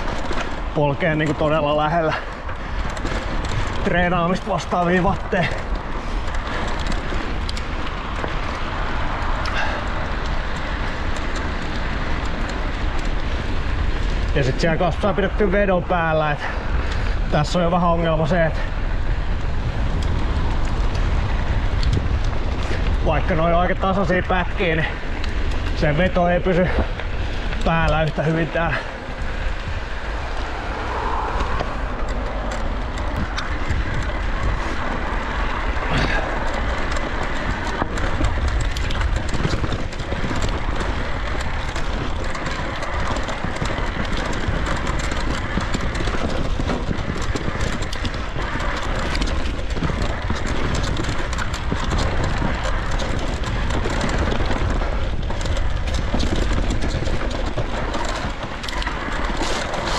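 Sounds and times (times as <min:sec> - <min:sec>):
bike clattering on trail: 0:00.0 - 0:59.9
wind rumble on microphone: 0:00.0 - 0:59.9.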